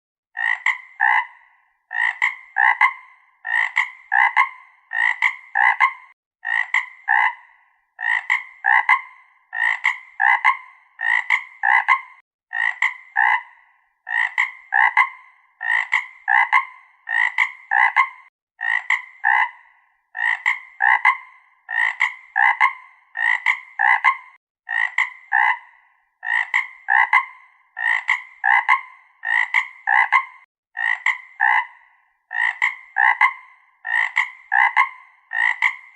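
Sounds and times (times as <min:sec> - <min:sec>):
frog croaking: 0:00.4 - 0:35.9.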